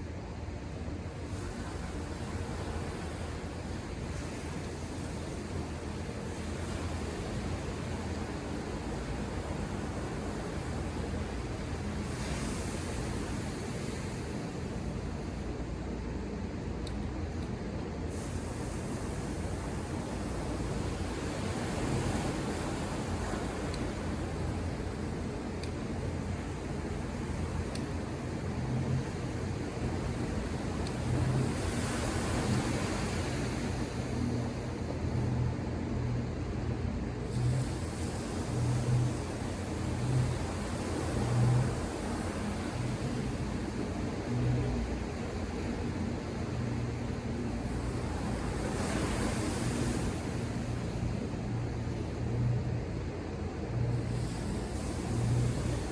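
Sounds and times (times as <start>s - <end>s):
ocean surf washing: 1.2s - 16.7s, 18.0s - 55.9s.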